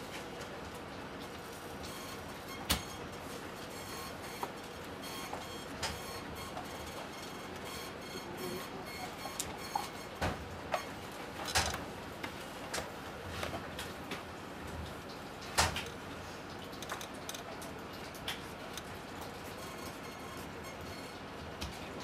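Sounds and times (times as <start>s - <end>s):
computers humming: 1.9s - 22.0s.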